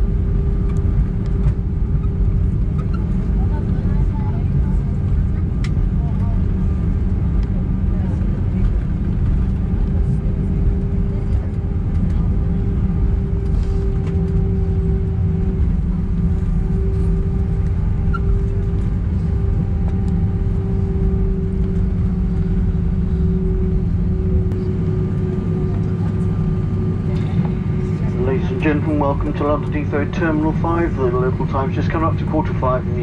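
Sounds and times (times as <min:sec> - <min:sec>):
aircraft cabin low rumble: 0:00.0 - 0:33.0
steady hum: 0:00.0 - 0:33.0.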